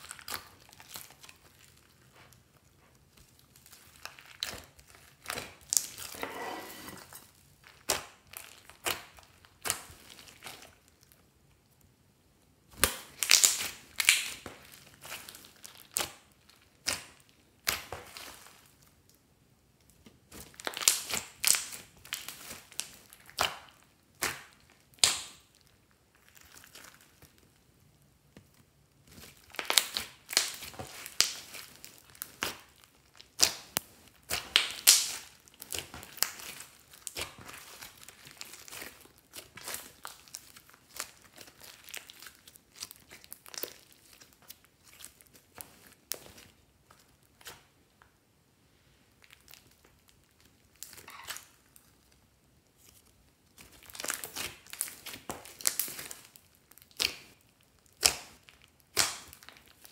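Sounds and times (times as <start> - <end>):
hands squishing crackling slime: 0.0 - 6.2, 7.1 - 11.7, 12.7 - 19.2, 19.8 - 48.2, 49.1 - 59.9.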